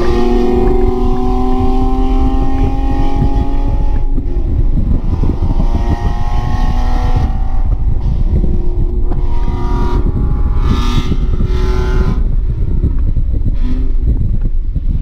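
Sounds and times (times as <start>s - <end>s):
car engine revving under full throttle: 0.0s - 14.2s
road rumble: 0.0s - 15.0s
wind noise: 0.0s - 15.0s.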